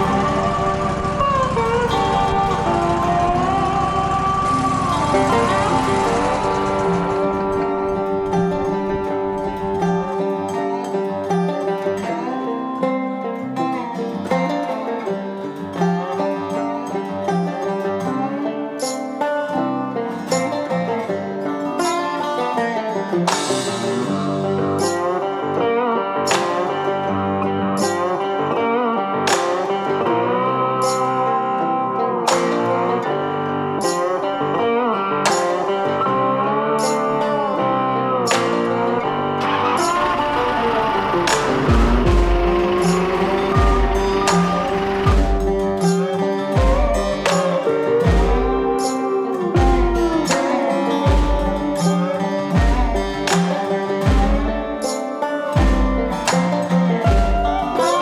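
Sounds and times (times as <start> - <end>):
bluegrass plucked string music: 0.0 - 58.0.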